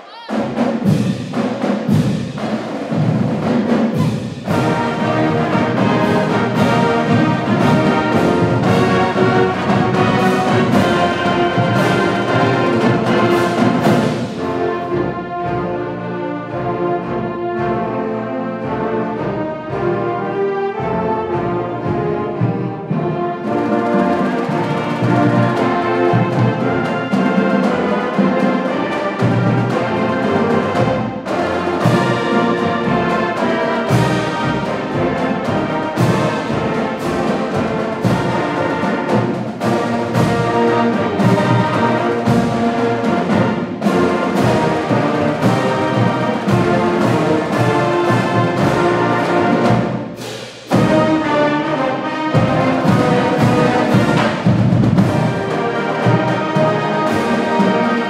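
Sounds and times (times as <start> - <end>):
brass-led orchestral music: 0.0 - 58.0
timpani: 0.0 - 58.0.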